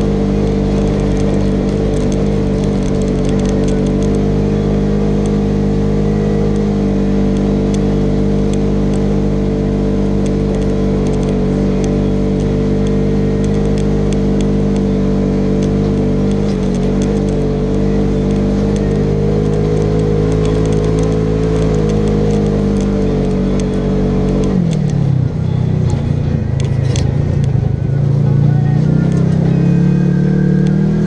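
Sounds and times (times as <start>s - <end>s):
off-road vehicle engine running: 0.0s - 31.0s.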